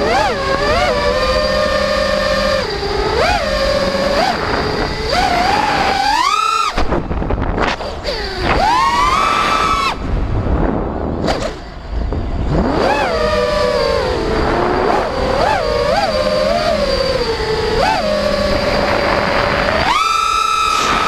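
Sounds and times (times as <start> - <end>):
drone motors whining: 0.0 - 21.0
wind rushing on microphone: 0.0 - 21.0.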